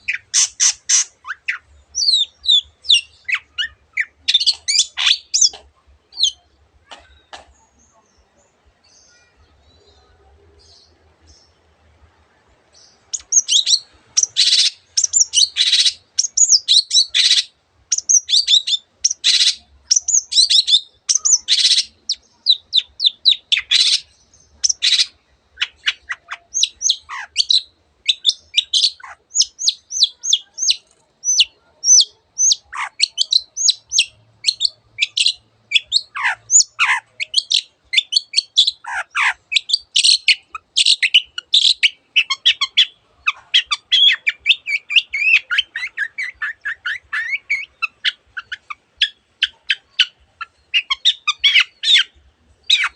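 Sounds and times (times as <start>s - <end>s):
bird singing chirps and warbles: 0.0s - 52.9s.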